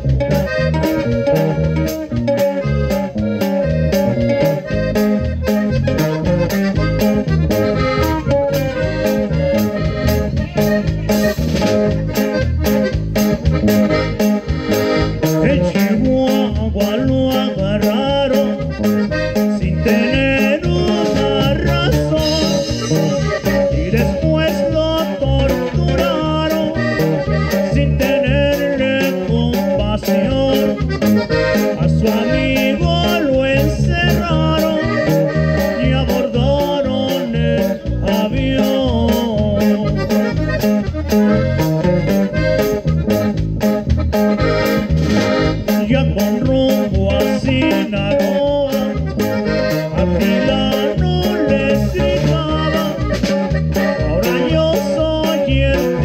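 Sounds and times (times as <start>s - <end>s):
accordion melody: 0.0s - 56.0s
bajo sexto and guitar: 0.0s - 56.0s
drum kit beat: 0.0s - 56.0s.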